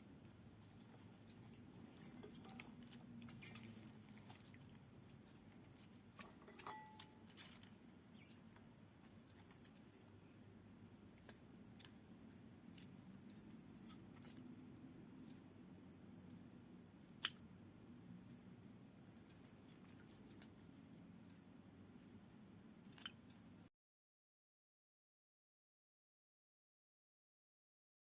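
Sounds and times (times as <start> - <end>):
faint room hum: 0.0 - 23.7.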